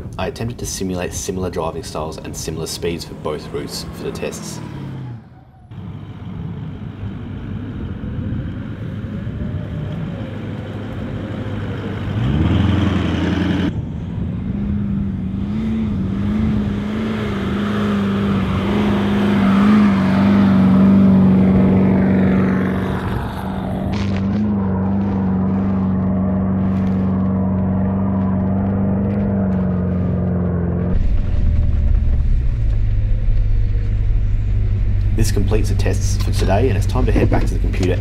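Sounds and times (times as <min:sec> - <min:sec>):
diesel engine driving under load: 0:00.0 - 0:38.0.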